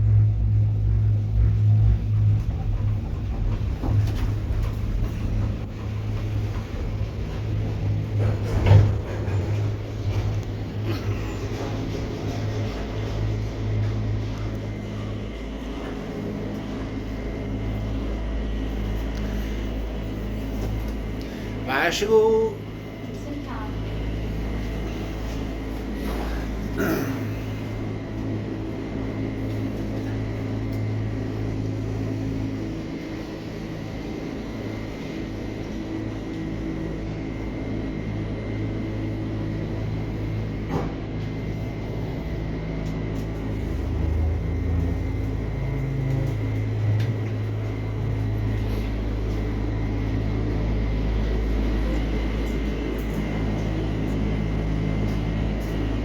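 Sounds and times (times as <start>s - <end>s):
mechanical hum with high whine: 0.0s - 56.0s.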